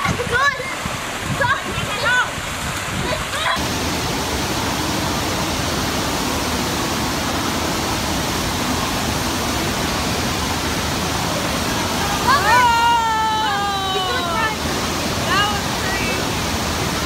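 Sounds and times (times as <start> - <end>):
water roaring up a wave slope: 0.0 - 17.0.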